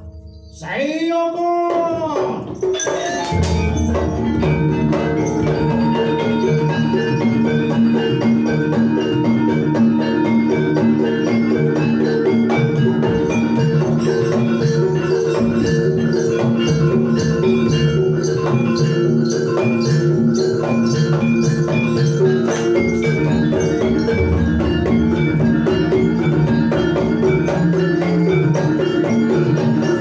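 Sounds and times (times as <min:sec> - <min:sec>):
gamelan music: 0:00.0 - 0:30.0
drum playing: 0:00.9 - 0:30.0.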